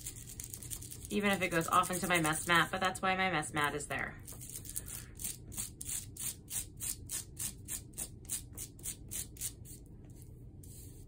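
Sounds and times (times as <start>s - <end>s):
marker scratching on bubble wrap: 0.0s - 2.8s, 4.3s - 11.0s.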